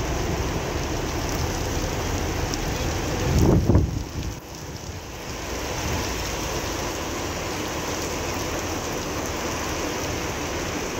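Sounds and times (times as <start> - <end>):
rain on wet street: 0.0 - 10.9.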